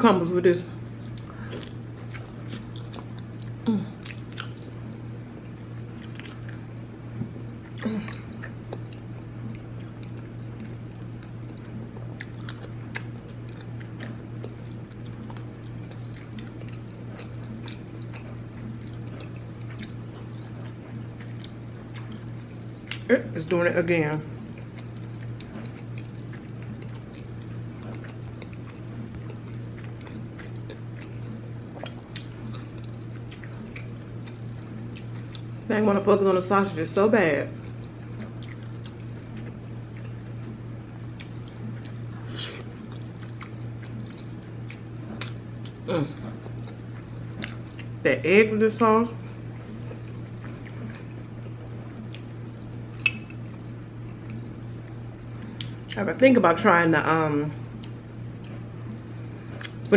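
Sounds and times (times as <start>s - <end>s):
steady low hum: 0.0s - 59.9s
close-miked chewing: 1.0s - 23.1s, 24.3s - 35.6s, 37.5s - 48.0s, 49.2s - 56.1s, 57.6s - 59.9s.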